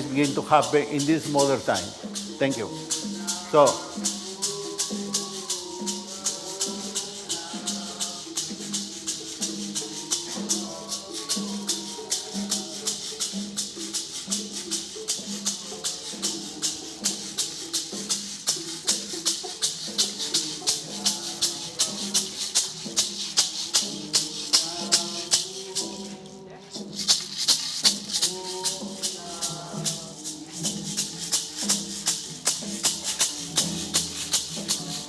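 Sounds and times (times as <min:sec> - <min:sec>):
wavering melody: 0:00.0 - 0:15.8, 0:16.4 - 0:35.0
rattles shaken rhythmically: 0:00.0 - 0:35.0.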